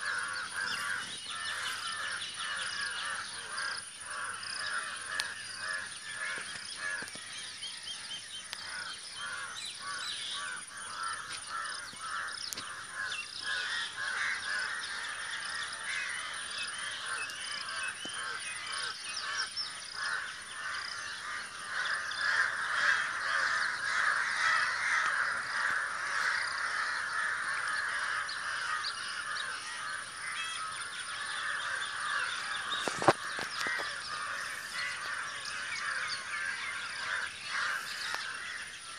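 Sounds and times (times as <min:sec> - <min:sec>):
flock of birds calling harshly: 0:00.0 - 0:07.3, 0:08.5 - 0:38.9.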